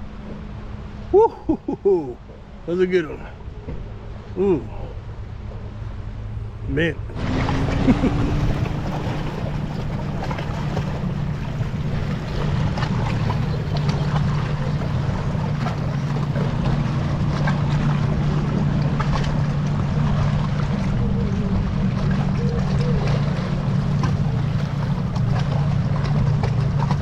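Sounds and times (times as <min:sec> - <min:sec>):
creek rushing: 0:00.0 - 0:03.5, 0:04.1 - 0:27.0
wind buffeting microphone: 0:03.6 - 0:27.0.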